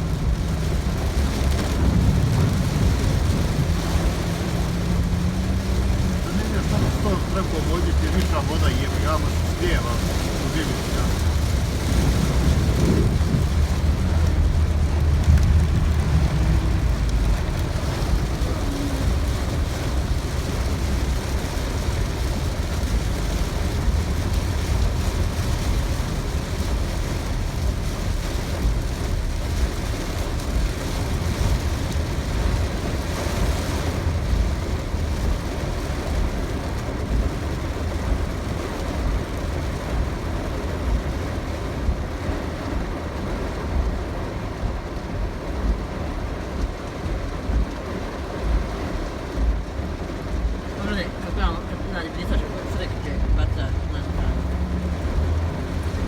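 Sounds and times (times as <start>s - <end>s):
heavy rain: 0.0s - 56.0s
runoff water rushing: 0.0s - 56.0s.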